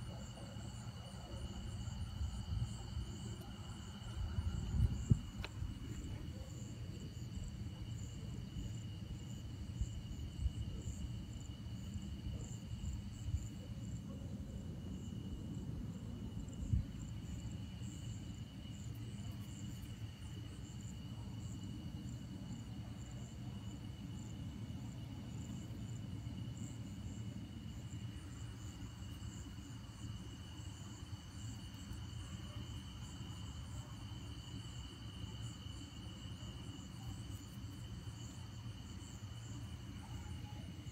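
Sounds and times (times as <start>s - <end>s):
insect chorus trilling: 0.0s - 14.0s, 16.2s - 40.9s.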